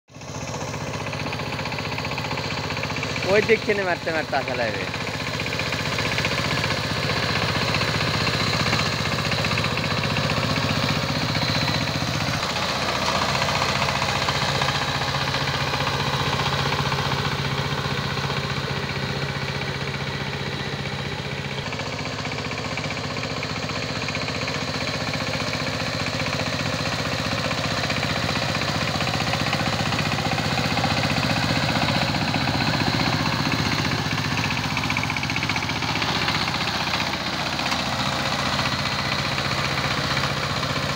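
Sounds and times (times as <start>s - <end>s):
diesel engine running under load: 0.1s - 40.9s.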